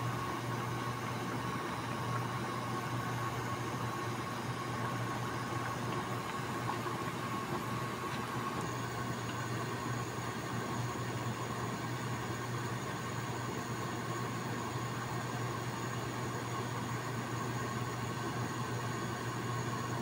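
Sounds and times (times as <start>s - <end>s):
meat boiling in water: 0.0s - 20.0s.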